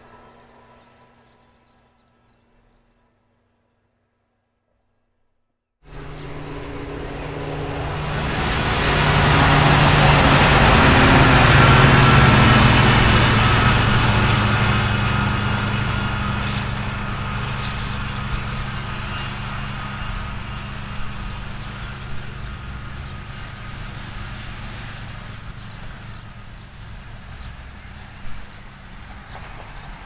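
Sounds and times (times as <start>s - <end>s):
wheels rumbling on rail: 0.0s - 4.0s, 5.8s - 30.0s
diesel engine drone: 5.8s - 30.0s.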